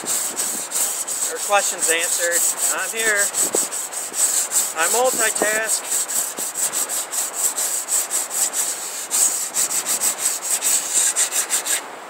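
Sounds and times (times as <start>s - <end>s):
sandpaper rasping on wood: 0.0s - 11.8s.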